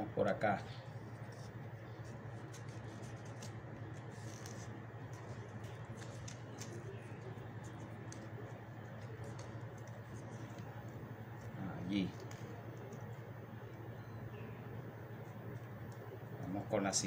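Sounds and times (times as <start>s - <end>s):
palm leaves rustling: 0.0s - 17.0s
steady low hum: 0.0s - 17.0s
small clicks and scratches: 0.9s - 16.2s.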